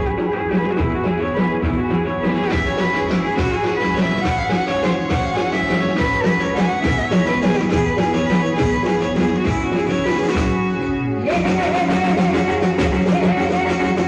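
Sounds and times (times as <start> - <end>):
live band folk music: 0.0 - 14.0.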